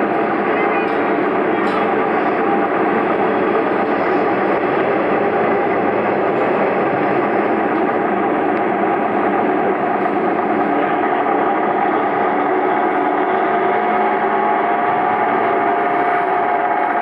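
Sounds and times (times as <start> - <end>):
diesel railcar running noise: 0.0 - 17.0.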